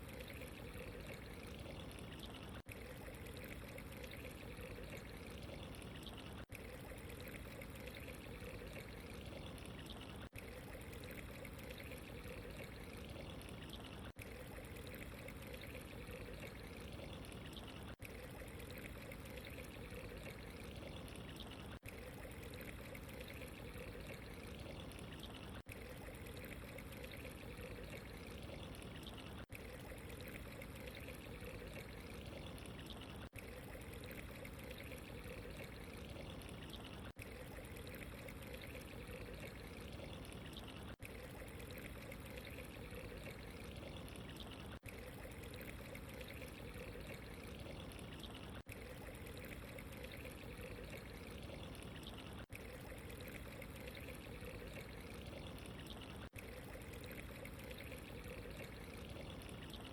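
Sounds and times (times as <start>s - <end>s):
faint trickling pouring water: 0.0s - 59.9s.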